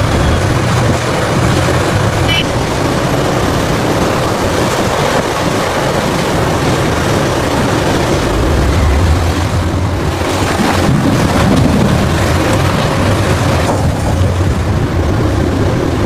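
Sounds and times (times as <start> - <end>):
loud rushing noise: 0.0 - 14.8
diesel engine drone: 0.0 - 16.0.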